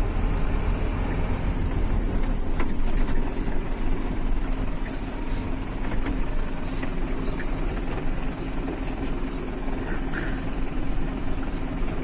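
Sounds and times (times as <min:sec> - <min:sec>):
truck engine running: 0:00.0 - 0:12.0
truck knocks and rattles: 0:01.2 - 0:12.0.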